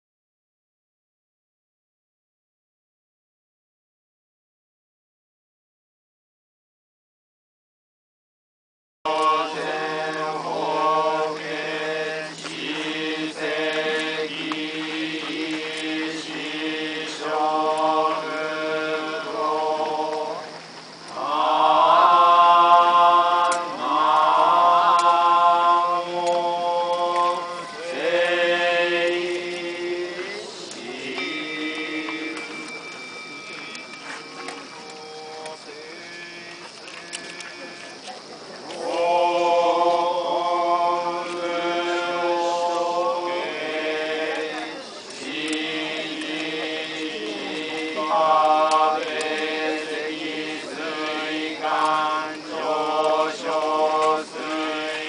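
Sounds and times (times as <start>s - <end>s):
monks chanting: 9.1s - 55.0s.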